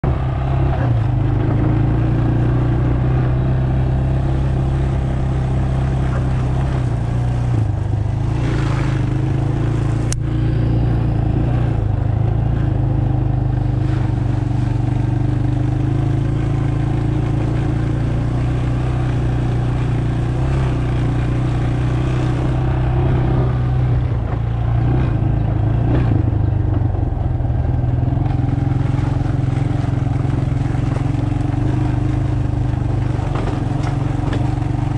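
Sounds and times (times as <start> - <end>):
dirt bike engine running: 0.0 - 34.9.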